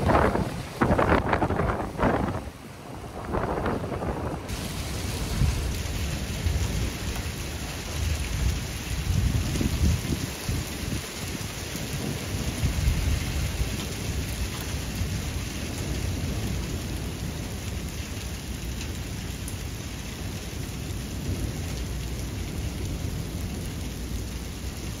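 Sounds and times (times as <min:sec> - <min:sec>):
continuous low rumble: 0:00.0 - 0:25.0
heavy rain falling: 0:00.0 - 0:25.0.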